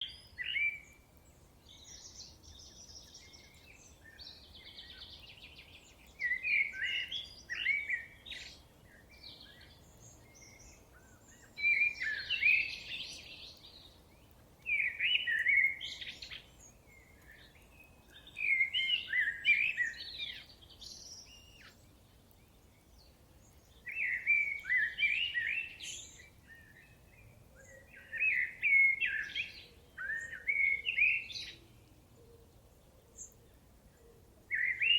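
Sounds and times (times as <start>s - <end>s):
faint calls of other birds: 0.0s - 34.9s.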